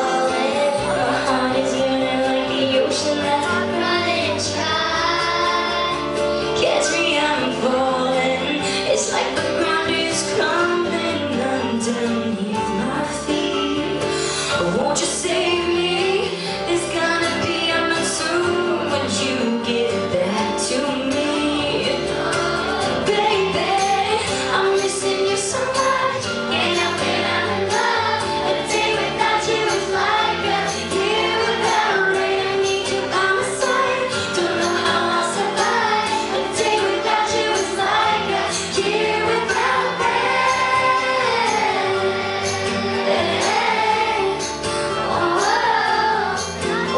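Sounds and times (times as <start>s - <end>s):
woman singing pop song: 0.0s - 46.9s.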